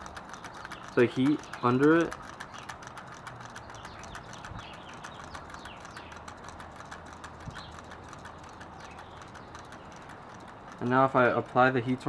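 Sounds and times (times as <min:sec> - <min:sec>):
stirling engine clicking rhythmically: 0:00.0 - 0:12.0.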